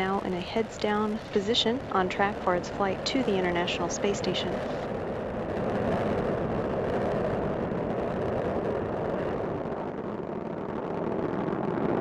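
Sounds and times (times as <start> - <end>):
rocket exhaust rumble: 0.0 - 12.0.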